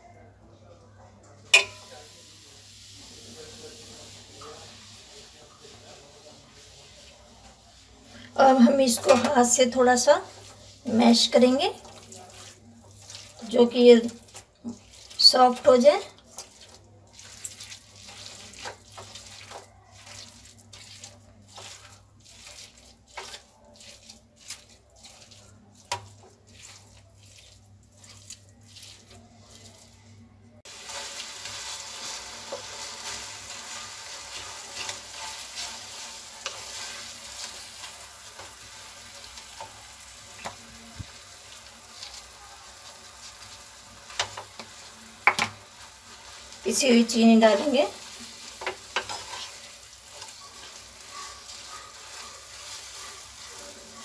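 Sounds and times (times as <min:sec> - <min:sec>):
sizzling hiss in pan: 0:01.6 - 0:29.6, 0:30.6 - 0:54.0
wooden spatula scraping: 0:03.5 - 0:54.0.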